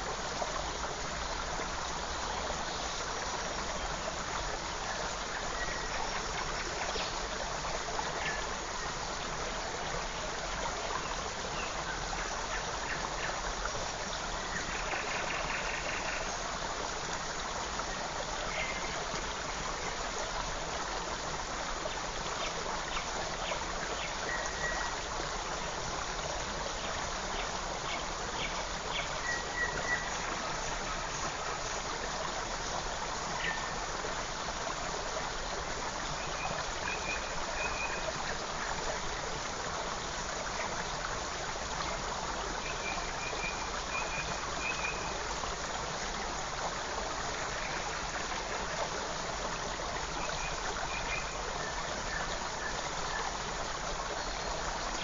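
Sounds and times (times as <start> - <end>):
creek flowing over stones: 0.0 - 55.0.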